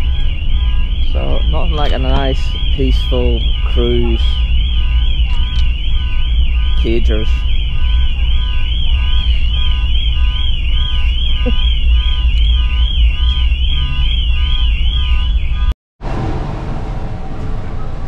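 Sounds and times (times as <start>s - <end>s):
car alarm siren warbling: 0.0s - 15.8s
steady low rumble: 0.0s - 18.0s.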